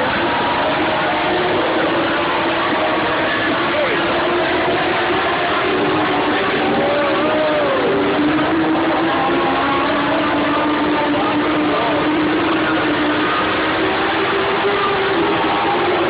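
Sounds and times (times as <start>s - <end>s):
race car engines droning: 0.0s - 16.0s.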